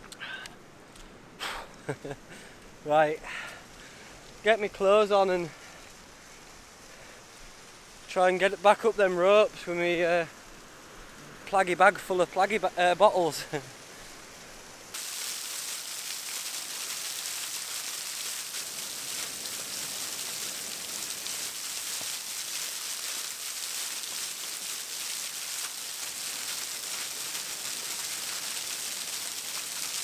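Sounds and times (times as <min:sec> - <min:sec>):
surf and running water: 0:00.0 - 0:30.0.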